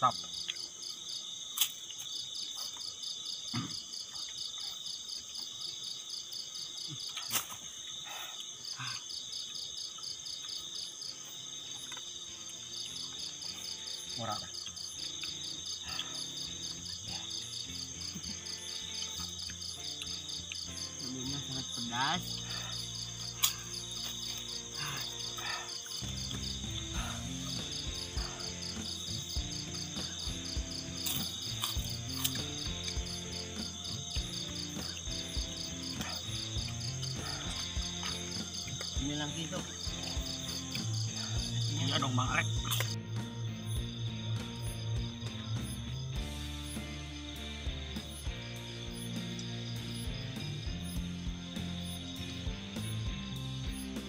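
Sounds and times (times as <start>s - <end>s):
insects high-pitched shrilling: 0.0s - 54.0s
insects pulsing trill: 0.0s - 54.0s.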